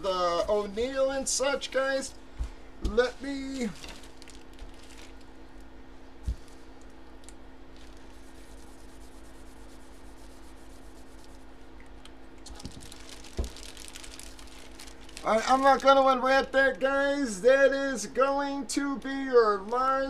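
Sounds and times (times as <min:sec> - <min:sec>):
rustling and handling noise: 0:00.0 - 0:16.6, 0:18.6 - 0:20.0
low electrical hum: 0:00.0 - 0:20.0.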